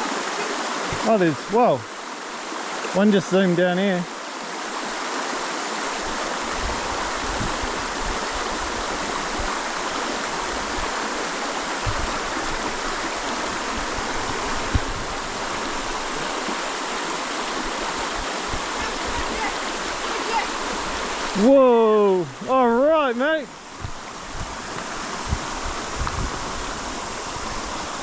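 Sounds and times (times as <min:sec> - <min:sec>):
river water over stones: 0:00.0 - 0:28.0.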